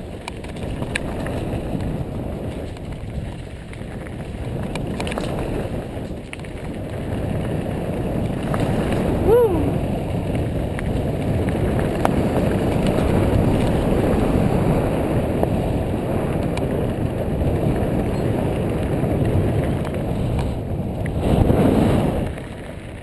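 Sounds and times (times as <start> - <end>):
bike clicks and rattles: 0.0 - 9.2, 10.0 - 23.0
wind buffeting microphone: 0.0 - 23.0.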